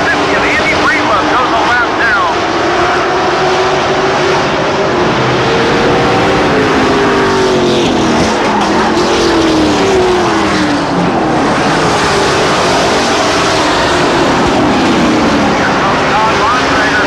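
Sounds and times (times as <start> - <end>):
racing truck engines passing: 0.0 - 17.0.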